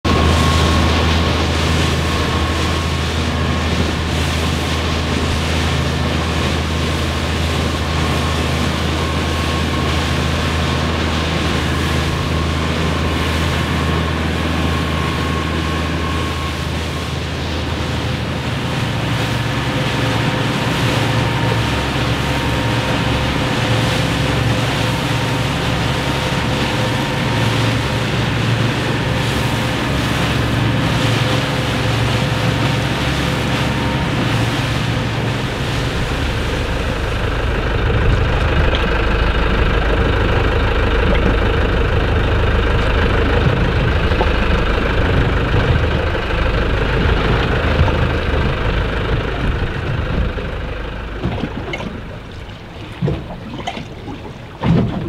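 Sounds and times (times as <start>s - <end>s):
motorboat engine running: 0.0s - 55.0s
rushing water: 0.0s - 55.0s
wind: 0.0s - 55.0s.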